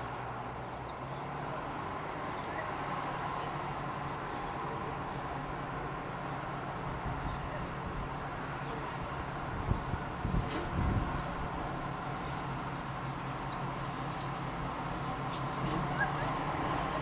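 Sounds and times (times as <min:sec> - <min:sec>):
diesel railcar engine droning: 0:00.0 - 0:17.0.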